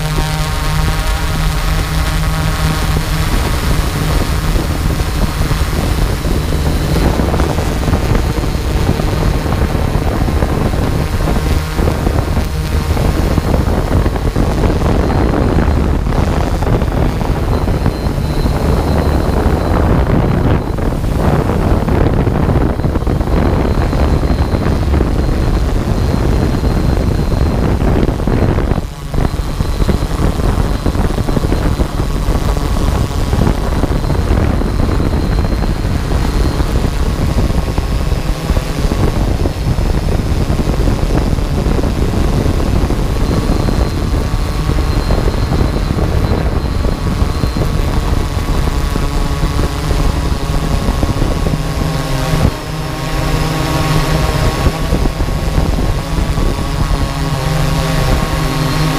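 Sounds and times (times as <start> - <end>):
drone propellers and motors running: 0.0 - 58.9
high motor whine: 0.0 - 58.9
wind buffeting microphone: 0.0 - 58.9.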